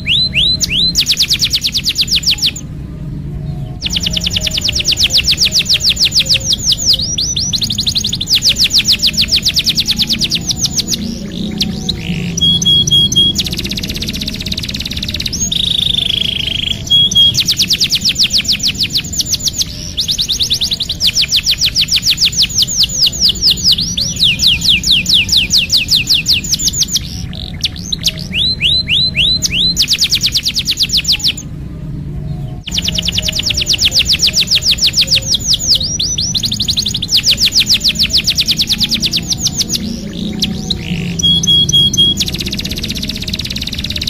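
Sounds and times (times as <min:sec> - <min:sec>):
canary singing rolling trills: 0:00.0 - 0:44.0.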